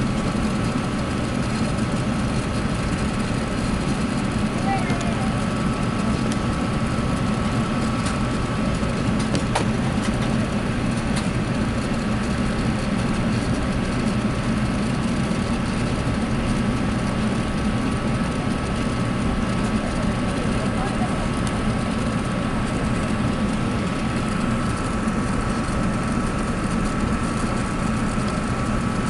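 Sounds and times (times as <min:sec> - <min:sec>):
airplane engines idling in cabin: 0:00.0 - 0:29.0.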